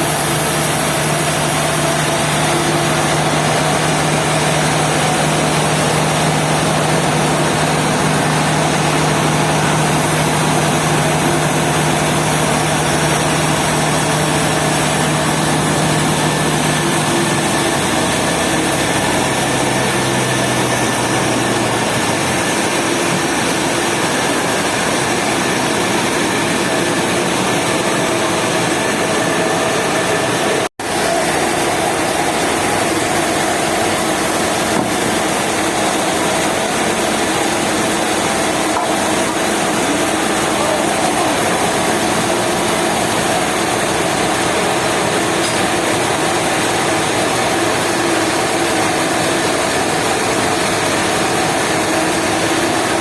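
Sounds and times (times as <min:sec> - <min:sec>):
woodworking machine running: 0:00.0 - 0:53.0.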